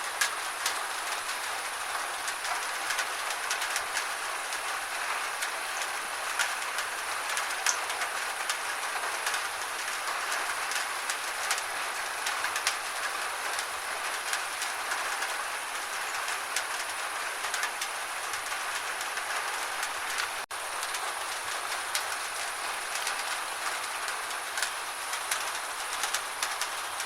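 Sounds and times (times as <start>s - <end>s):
gentle steady rain: 0.0s - 27.0s
raindrops ticking on a surface: 0.0s - 27.0s.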